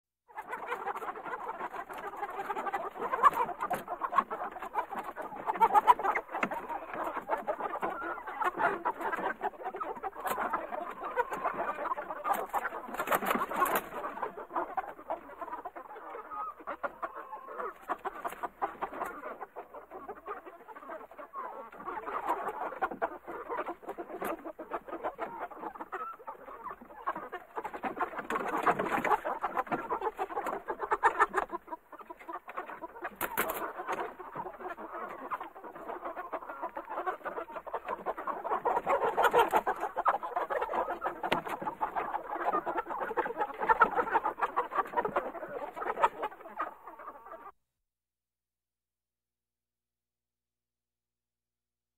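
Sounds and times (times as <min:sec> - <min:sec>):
chickens clucking and squawking: 0:00.3 - 0:47.6.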